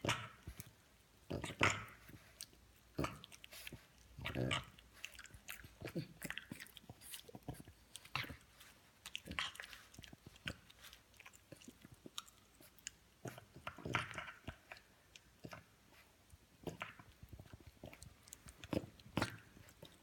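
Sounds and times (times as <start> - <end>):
dog chewing on a chew toy: 0.0 - 20.0.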